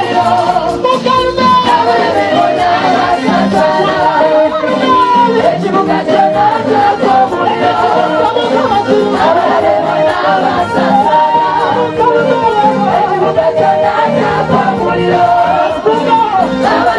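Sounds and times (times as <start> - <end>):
choir singing praise: 0.0 - 16.9.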